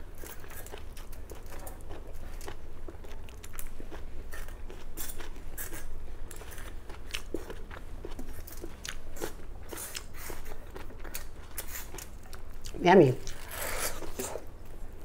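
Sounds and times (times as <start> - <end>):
person chewing food: 0.1 - 15.0.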